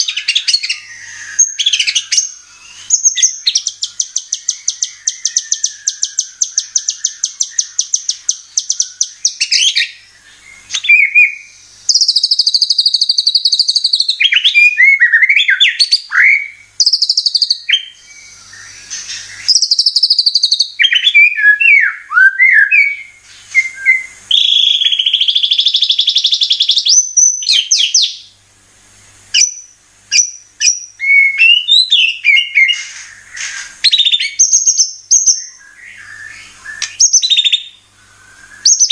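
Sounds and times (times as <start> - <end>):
bird singing whistles and trills: 0.0 - 28.4, 29.3 - 38.9.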